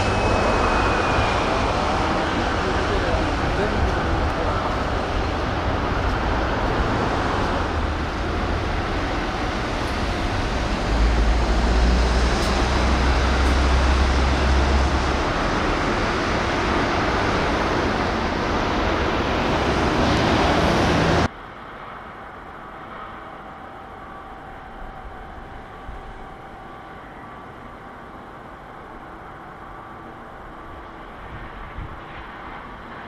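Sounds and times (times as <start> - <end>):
outdoor rumble and hiss: 0.0 - 33.0.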